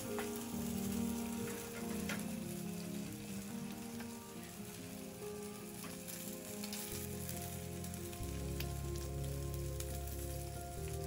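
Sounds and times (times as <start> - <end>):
food sizzling in frying pan: 0.0 - 11.0
soft background music: 0.0 - 11.0.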